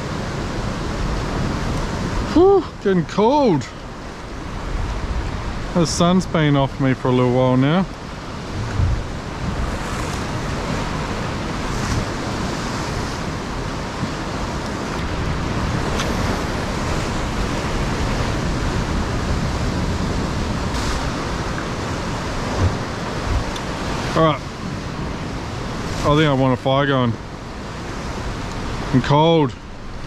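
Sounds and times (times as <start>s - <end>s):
surf breaking against rocks: 0.0s - 30.0s.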